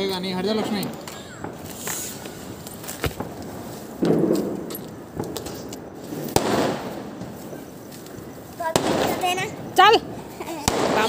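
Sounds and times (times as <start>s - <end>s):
firecracker crackling: 0.0s - 11.0s
firecracker bangs: 0.4s - 7.7s, 8.6s - 11.0s.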